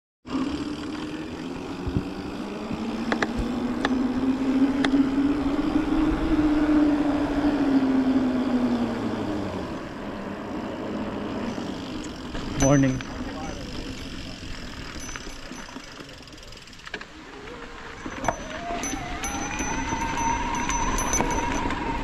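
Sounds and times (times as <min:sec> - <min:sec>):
bike tyres humming on asphalt: 0:00.3 - 0:22.0.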